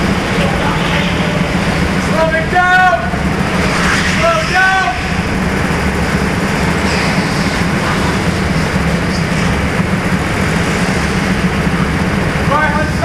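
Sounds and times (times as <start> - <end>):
go-kart engines droning: 0.0 - 12.8.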